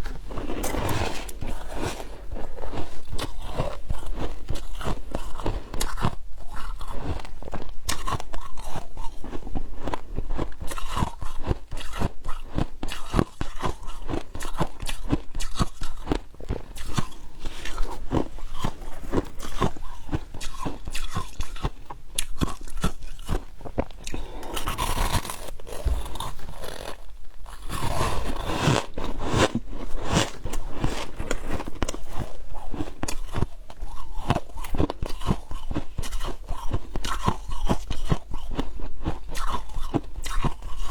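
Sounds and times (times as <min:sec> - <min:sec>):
chewing ice crunching: 0:00.0 - 0:40.9.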